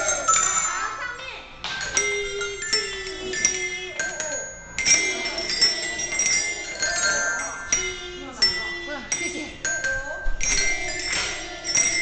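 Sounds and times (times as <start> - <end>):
glockenspiels ringing: 0.0 - 12.0.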